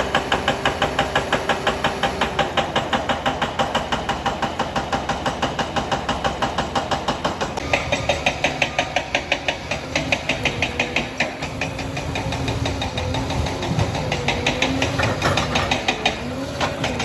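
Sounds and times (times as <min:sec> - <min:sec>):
diesel engine rapid clatter: 0:00.0 - 0:17.0.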